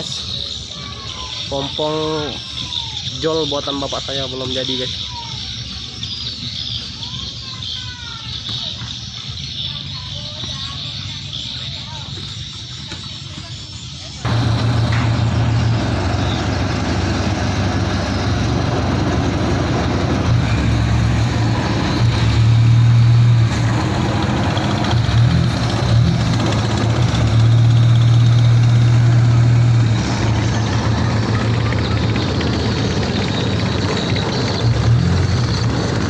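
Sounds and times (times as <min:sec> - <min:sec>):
boat engine humming: 0:02.5 - 0:36.0.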